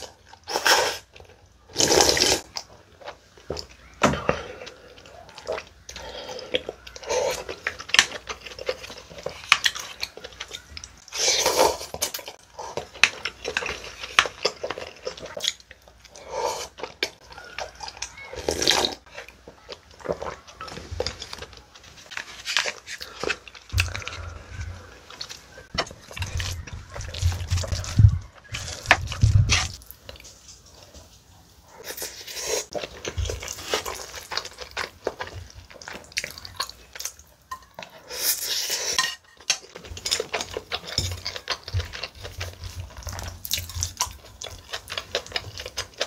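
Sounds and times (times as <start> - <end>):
wet chewing: 0.0 - 31.0, 31.7 - 46.0.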